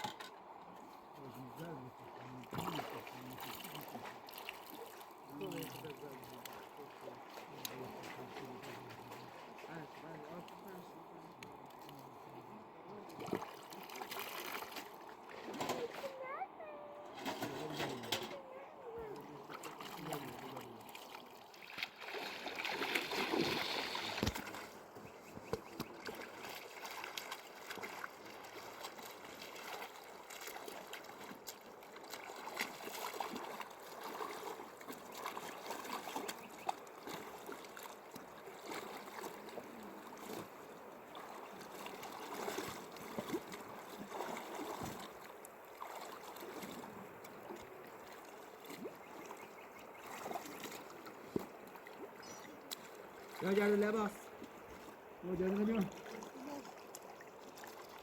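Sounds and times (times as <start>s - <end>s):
river water flowing and splashing: 0.0s - 58.0s.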